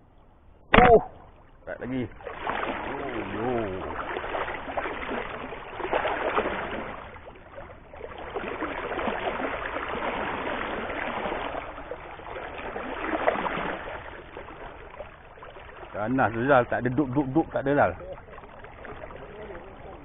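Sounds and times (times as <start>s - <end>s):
river water rushing and splashing: 2.0s - 20.0s.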